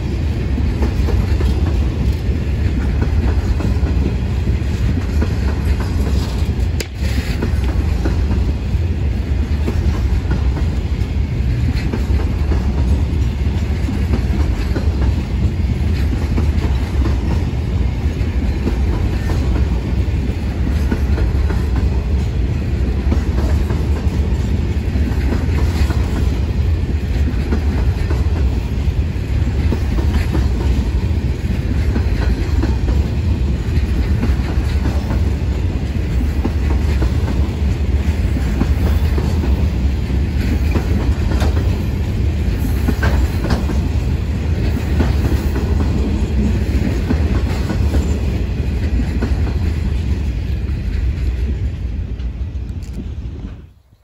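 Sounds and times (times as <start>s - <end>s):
freight train rumbling past: 0.0s - 54.0s
train wheel clatter: 0.0s - 54.0s.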